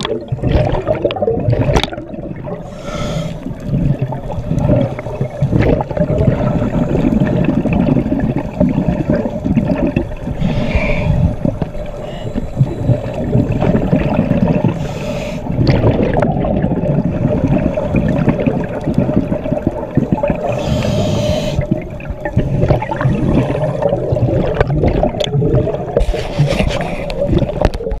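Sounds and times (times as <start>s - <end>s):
low underwater rumble: 0.0s - 28.0s.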